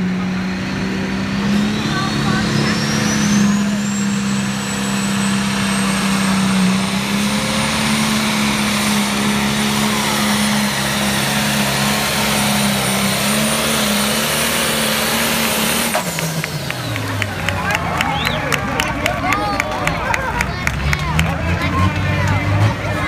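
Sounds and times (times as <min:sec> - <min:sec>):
diesel engine at full throttle: 0:00.0 - 0:23.0.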